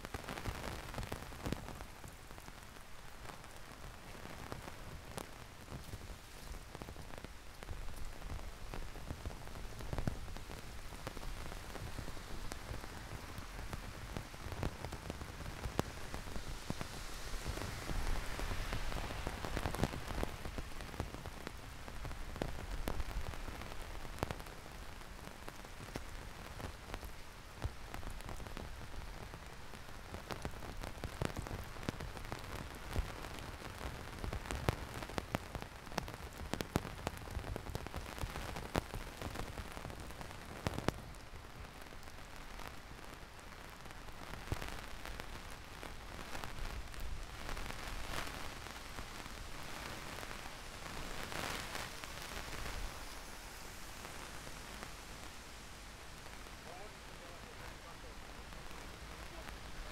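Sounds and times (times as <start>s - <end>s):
heavy rain falling: 0.0s - 59.9s
raindrops ticking close by: 0.0s - 59.9s.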